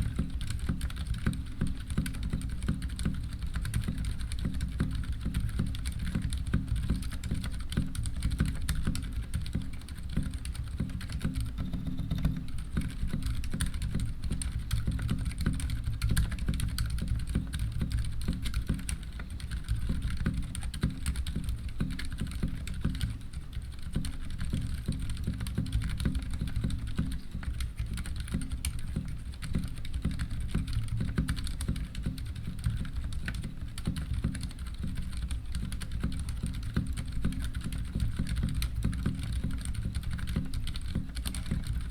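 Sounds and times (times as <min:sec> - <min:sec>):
fast typing on keyboard: 0:00.0 - 0:41.9.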